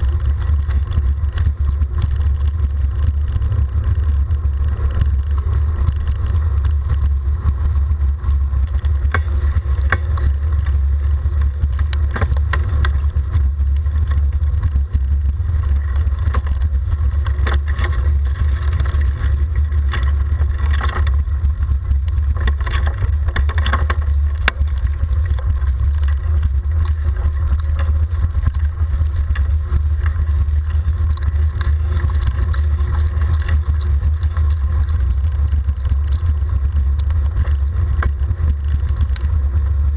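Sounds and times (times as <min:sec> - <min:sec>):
clicks and rattles from bumps: 0:00.0 - 0:39.9
road noise: 0:00.0 - 0:39.9.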